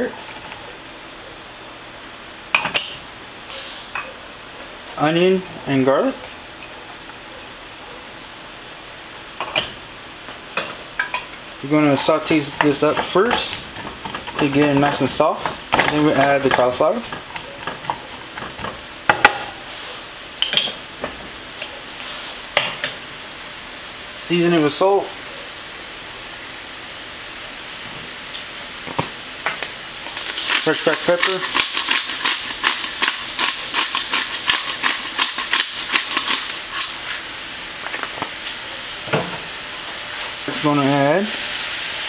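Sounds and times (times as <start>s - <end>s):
vegetables sizzling in frying pan: 6.4s - 42.0s.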